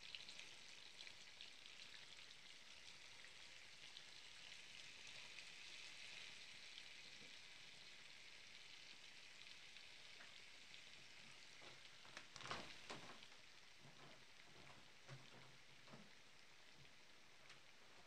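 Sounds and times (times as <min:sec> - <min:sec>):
butter sizzling in frying pan: 0:00.0 - 0:18.0.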